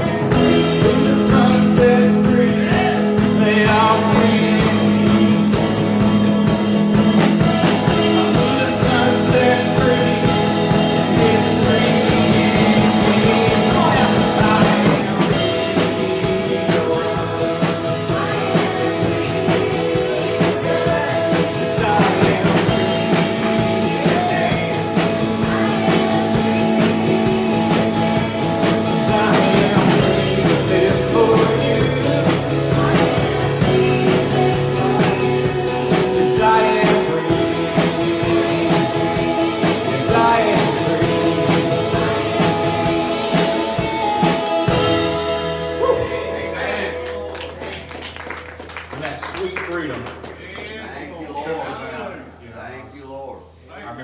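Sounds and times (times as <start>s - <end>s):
worship band singing: 0.0s - 47.9s
drum kit: 0.0s - 50.3s
guitar: 0.0s - 52.4s.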